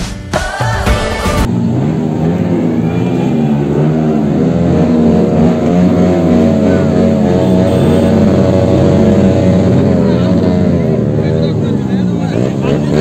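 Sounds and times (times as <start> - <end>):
motorcycle engine at high revs: 1.5 - 13.0.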